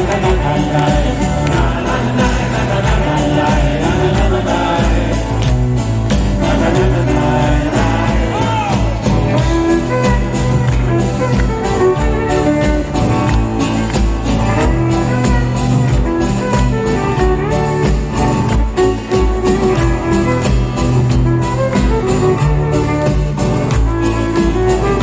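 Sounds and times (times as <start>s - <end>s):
rock band playing live: 0.0s - 25.0s
steady drumbeat: 0.0s - 25.0s.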